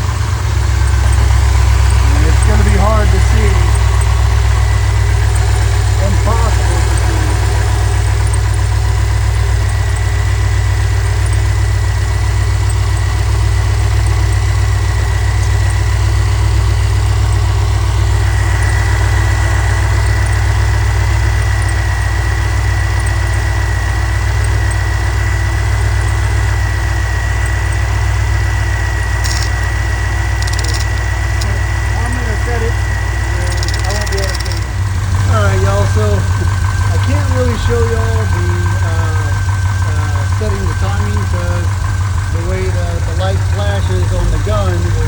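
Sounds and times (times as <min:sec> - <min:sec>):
thin high whine: 0:00.0 - 0:41.8
car engine idling: 0:00.0 - 0:45.0.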